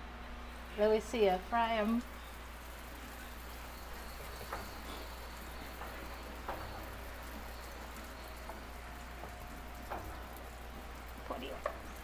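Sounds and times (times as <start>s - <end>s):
dough frying in hot oil: 0.0s - 12.0s.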